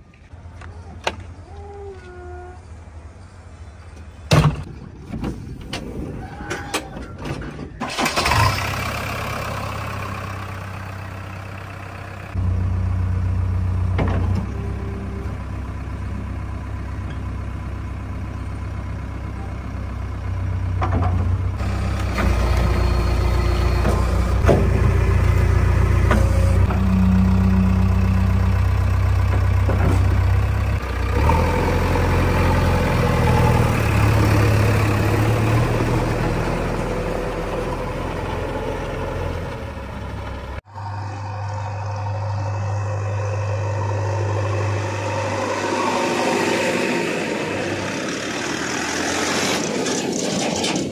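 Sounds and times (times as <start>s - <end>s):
diesel engine running: 7.4s - 50.9s.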